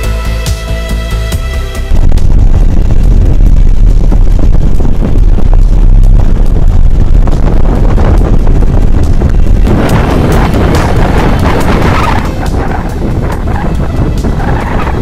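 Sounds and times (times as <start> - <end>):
strong wind buffeting microphone: 1.5 - 15.0.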